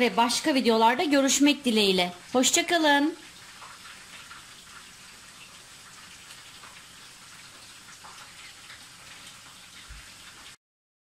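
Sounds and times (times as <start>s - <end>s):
hot oil frying in a pan: 0.0s - 10.6s.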